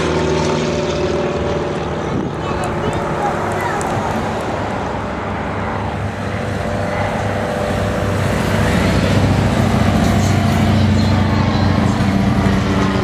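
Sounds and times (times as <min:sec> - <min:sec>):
propeller aircraft engine humming: 0:00.0 - 0:13.0.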